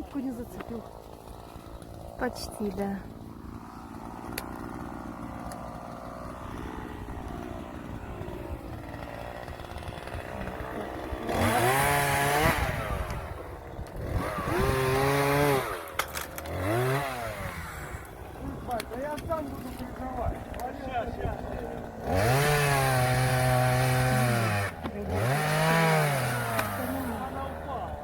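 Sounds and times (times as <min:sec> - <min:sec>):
chainsaw idling and revving: 0:00.0 - 0:28.0.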